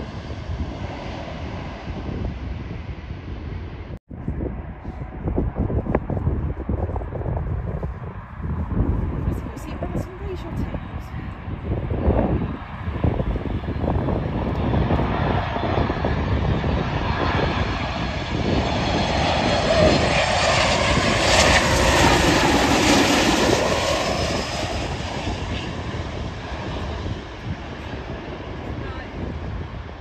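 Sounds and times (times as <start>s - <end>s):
jet airplane passing overhead: 0.0s - 30.0s.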